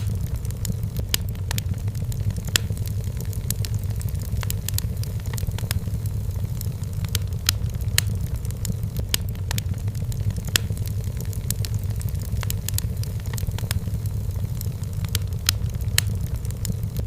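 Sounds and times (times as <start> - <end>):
firewood crackling and popping: 0.0 - 17.0.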